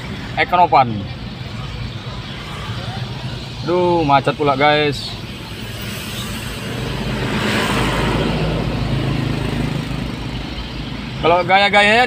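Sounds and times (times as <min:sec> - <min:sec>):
car engine: 0:00.0 - 0:12.0
road noise: 0:00.0 - 0:12.0.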